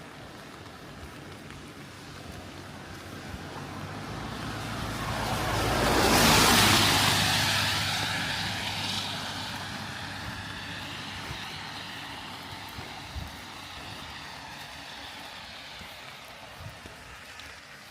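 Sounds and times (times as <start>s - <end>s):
vehicle tyres hissing on wet road: 0.0s - 17.9s.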